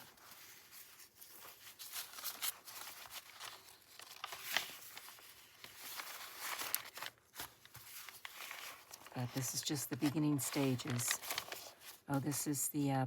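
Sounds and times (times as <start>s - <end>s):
paper rustling and crinkling: 0.0s - 12.6s.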